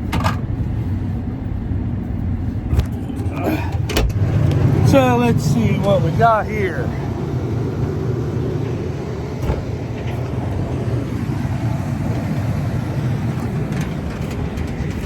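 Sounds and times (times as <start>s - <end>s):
combine harvester humming: 0.0s - 15.0s.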